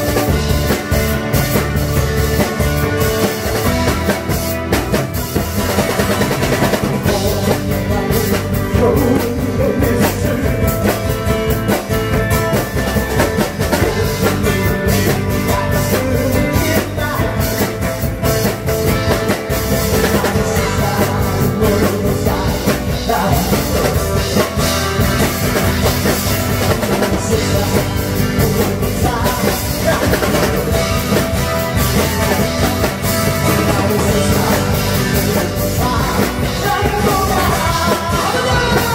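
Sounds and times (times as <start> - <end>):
drum kit rock beat: 0.0 - 38.9
live band music: 0.0 - 38.9.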